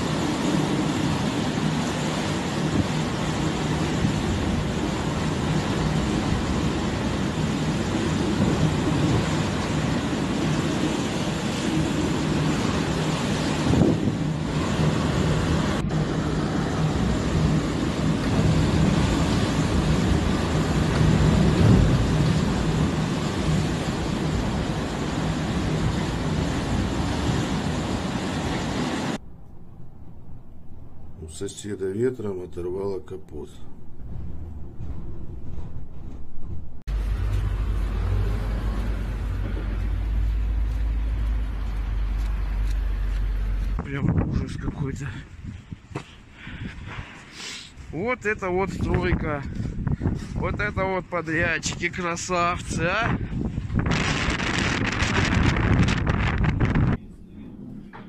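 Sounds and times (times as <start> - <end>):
wind rumble on microphone: 0.0 - 31.2, 33.7 - 58.0
strong wind rushing: 0.0 - 31.8, 33.2 - 58.0
low wavering wind howl: 0.0 - 58.0.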